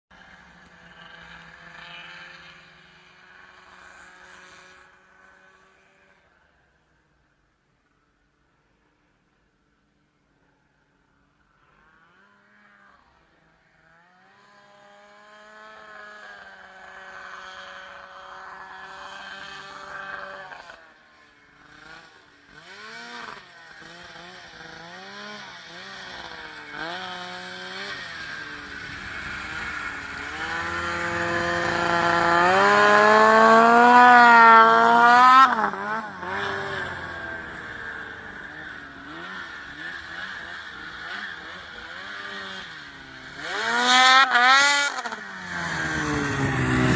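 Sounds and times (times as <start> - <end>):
snowmobile engine revving: 0.2 - 6.6, 11.6 - 46.9.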